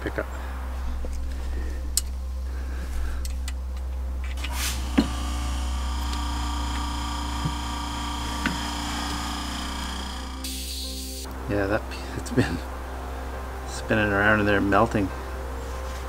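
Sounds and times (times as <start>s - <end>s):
low steady hum: 0.0s - 16.0s
soft background music chords: 0.0s - 16.0s.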